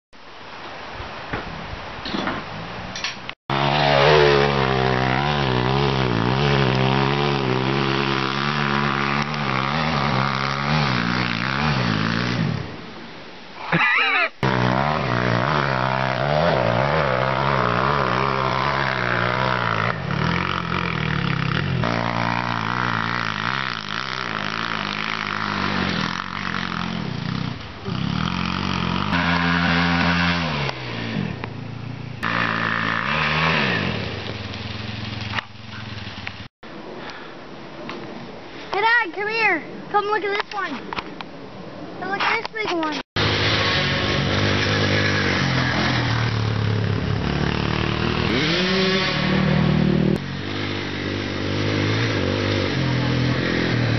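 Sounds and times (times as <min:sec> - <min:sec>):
dirt bike engines revving: 0:03.5 - 0:12.8, 0:13.6 - 0:36.5, 0:42.0 - 0:53.9.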